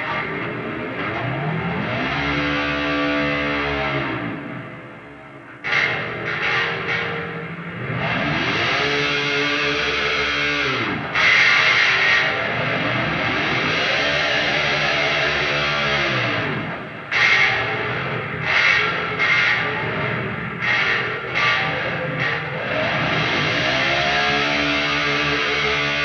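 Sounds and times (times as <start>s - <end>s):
distorted electric guitar notes: 0.0s - 26.0s.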